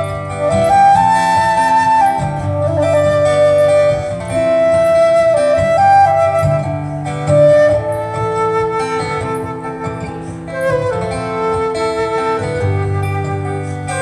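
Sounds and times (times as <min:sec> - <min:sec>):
flute playing slow melody: 0:00.0 - 0:14.0
strummed acoustic guitar: 0:00.0 - 0:14.0.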